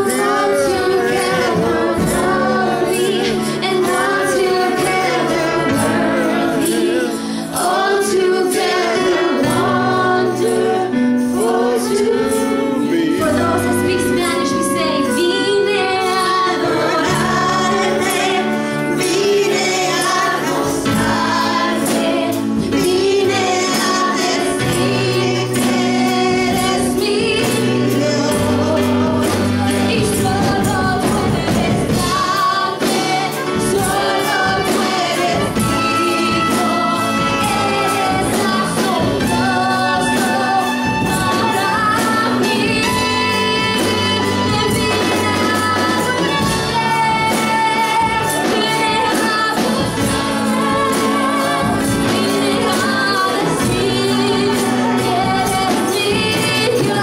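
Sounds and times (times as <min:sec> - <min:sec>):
keyboard: 0:00.0 - 0:57.0
steady percussion beat: 0:00.0 - 0:57.0
voices singing gospel song: 0:00.0 - 0:57.0.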